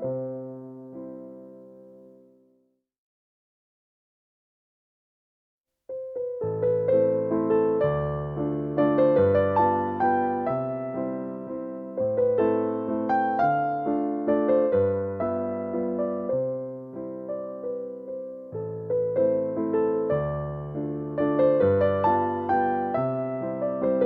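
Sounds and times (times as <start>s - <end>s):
gentle piano piece: 0.0s - 2.7s, 5.9s - 24.0s.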